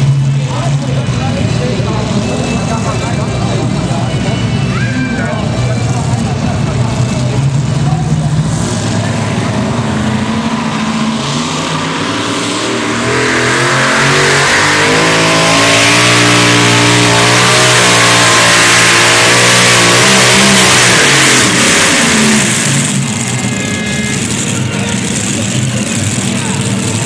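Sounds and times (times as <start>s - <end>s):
pulling tractor engine roaring: 0.0s - 27.0s.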